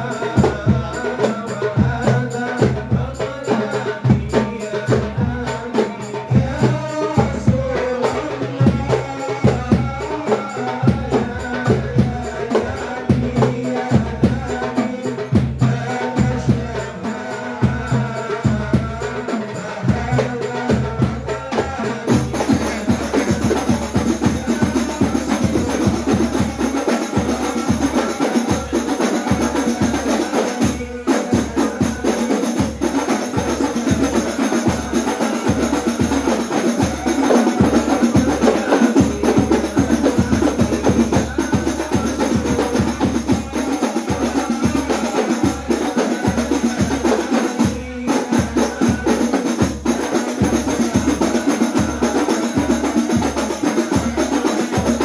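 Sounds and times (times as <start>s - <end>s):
frame drums beating: 0.0s - 55.0s
men singing through microphones: 0.0s - 55.0s.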